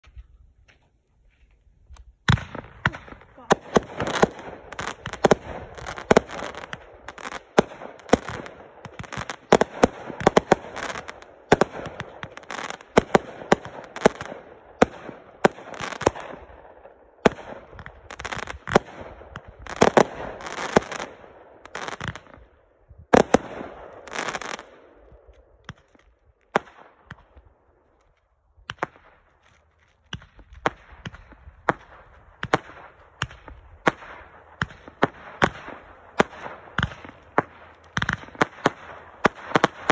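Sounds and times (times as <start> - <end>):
firework crackle: 2.2 - 16.4, 17.2 - 22.4, 23.1 - 27.2, 28.1 - 39.9.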